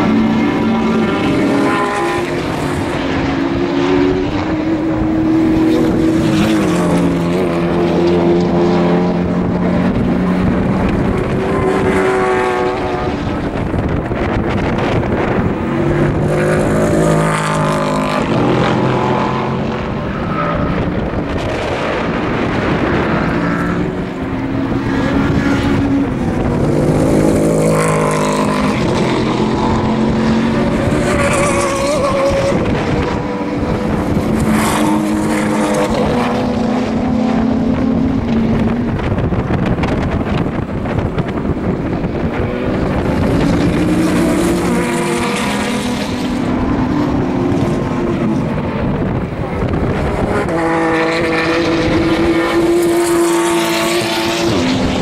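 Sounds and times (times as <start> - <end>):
racing car engines accelerating: 0.0 - 55.0.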